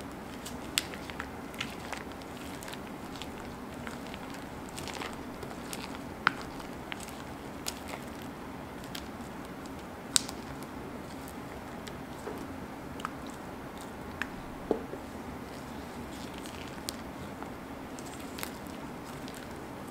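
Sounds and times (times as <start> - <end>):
slime squishing: 0.0 - 19.9.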